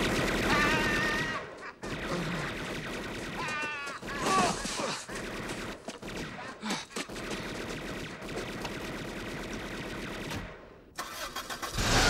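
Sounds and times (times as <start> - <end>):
submachine gun firing: 0.0 - 10.6.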